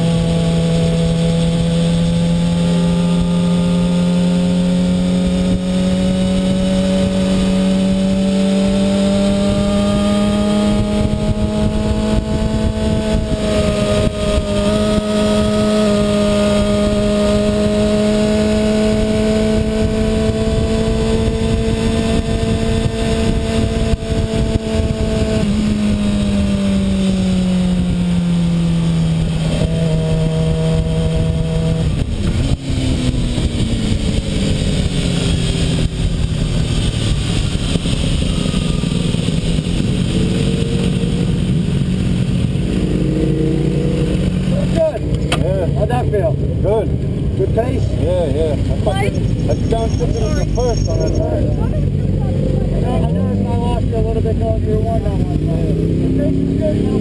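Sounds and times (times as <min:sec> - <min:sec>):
motorcycle engine at high revs: 0:00.0 - 0:57.0
wind rush: 0:00.0 - 0:57.0.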